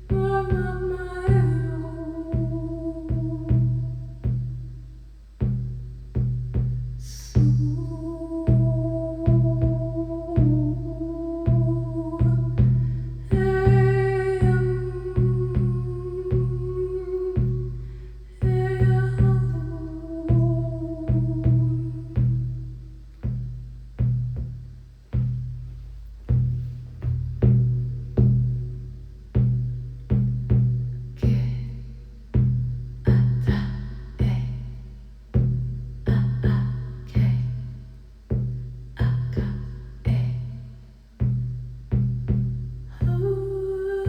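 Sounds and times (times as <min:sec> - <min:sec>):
hand drum beats: 0:00.0 - 0:04.7, 0:05.4 - 0:17.8, 0:18.4 - 0:31.8, 0:32.4 - 0:43.6.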